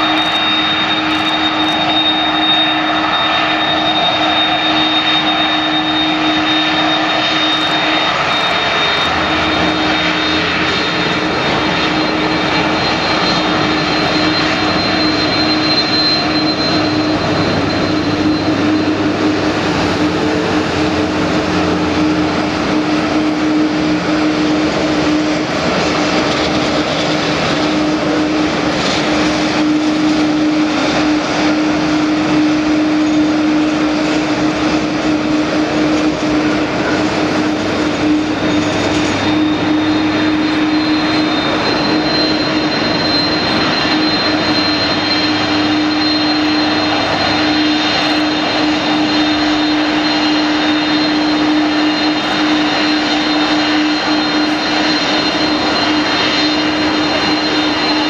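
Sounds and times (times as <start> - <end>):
high jet engine whine: 0.0 - 58.0
jet engines at taxi thrust: 0.0 - 58.0.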